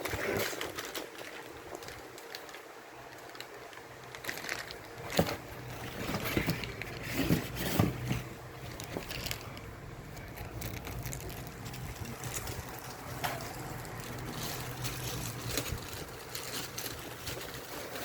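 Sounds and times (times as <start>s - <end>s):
low steady hum: 0.0s - 18.0s
packaging rustling and clicking: 0.0s - 18.0s.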